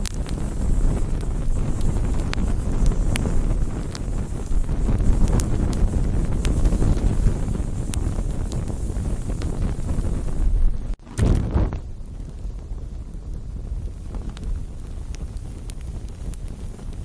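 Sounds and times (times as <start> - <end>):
campfire flames rumbling: 0.0 - 17.0
fire crackling and popping: 0.0 - 17.0.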